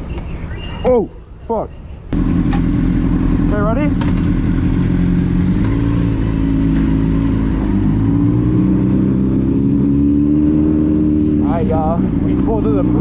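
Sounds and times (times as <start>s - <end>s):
car engine accelerating: 2.2s - 13.0s.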